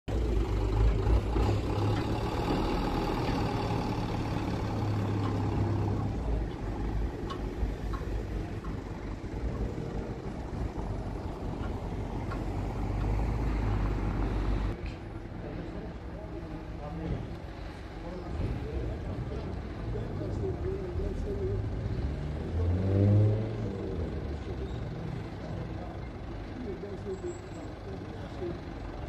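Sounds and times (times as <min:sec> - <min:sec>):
vehicle engine idling: 0:00.1 - 0:29.0.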